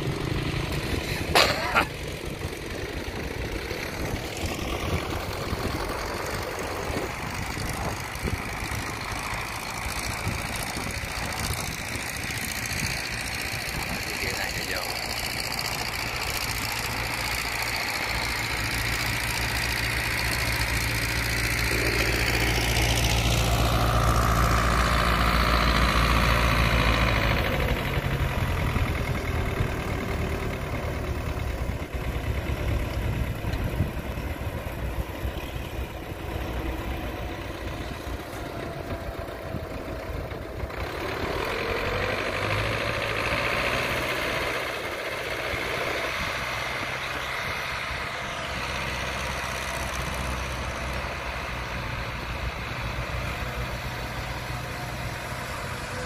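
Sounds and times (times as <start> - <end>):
tractor diesel engine passing: 0.0 - 56.0.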